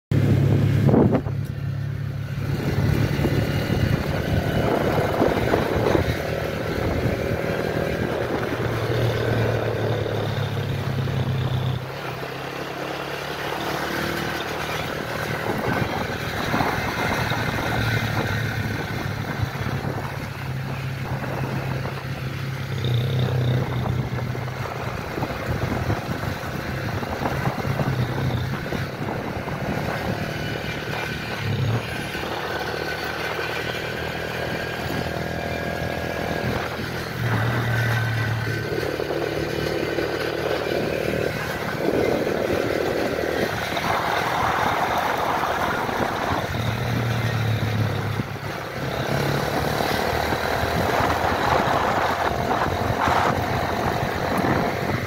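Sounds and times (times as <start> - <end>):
motorcycle engine running: 0.1 - 55.0
wind noise on microphone: 0.1 - 55.0.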